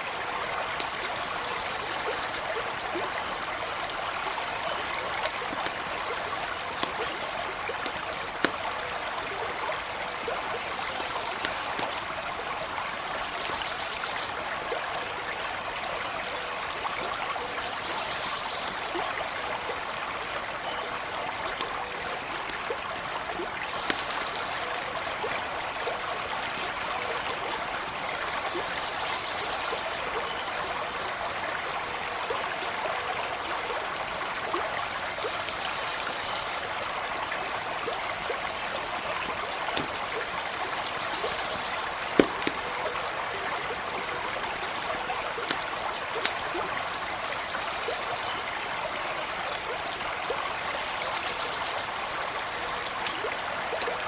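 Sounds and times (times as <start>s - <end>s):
campfire crackles: 0.0s - 54.0s
stream running: 0.0s - 54.0s.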